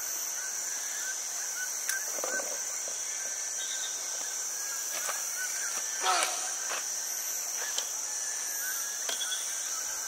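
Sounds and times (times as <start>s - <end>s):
faint bird chirps: 0.0s - 6.7s, 7.5s - 10.0s
insects buzzing chorus: 0.0s - 10.0s.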